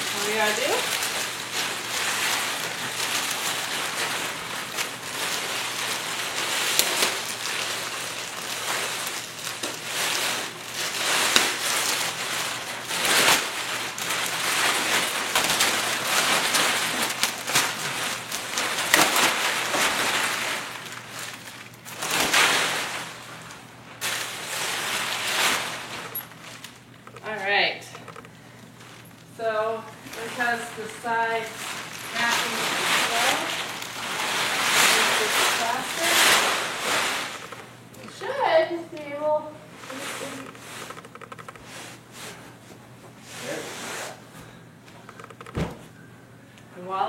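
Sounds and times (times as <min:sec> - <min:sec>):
plastic wrapping crinkling: 0:00.0 - 0:46.0.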